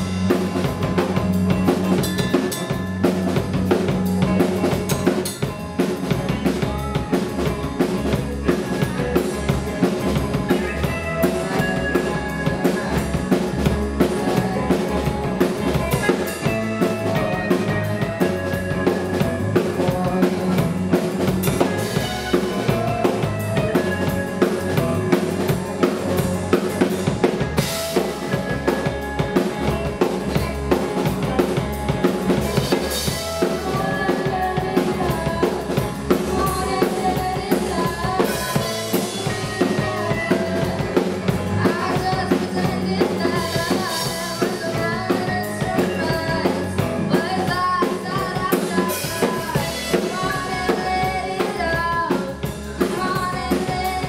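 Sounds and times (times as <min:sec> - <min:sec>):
bass guitar: 0:00.0 - 0:54.0
drum kit beat: 0:00.0 - 0:54.0
electric guitars: 0:00.0 - 0:54.0.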